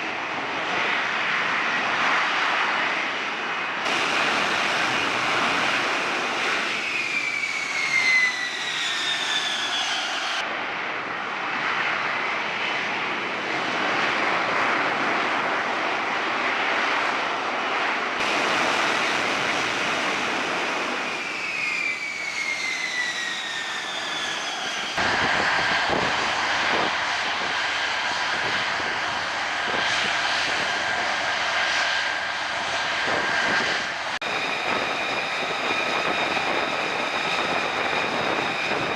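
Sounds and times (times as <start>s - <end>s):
jet engine roar with whine: 0.0s - 38.9s.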